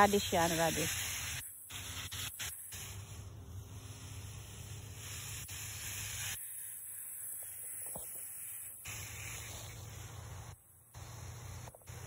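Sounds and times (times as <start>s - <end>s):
hose nozzle spraying water: 0.0s - 12.0s.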